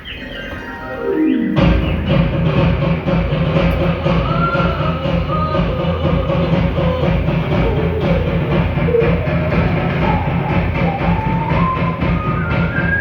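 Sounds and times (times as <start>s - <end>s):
loud show music: 0.0s - 13.0s
driving drum beat: 1.6s - 13.0s.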